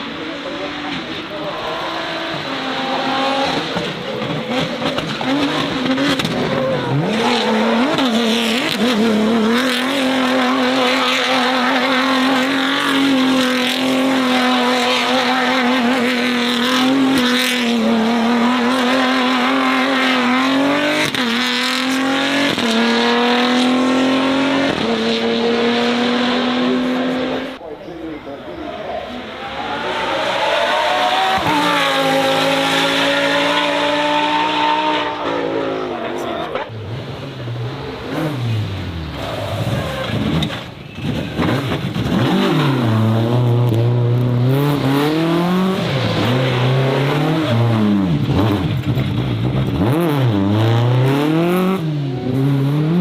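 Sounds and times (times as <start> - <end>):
racing car engine revving: 0.0 - 27.6, 28.6 - 53.0.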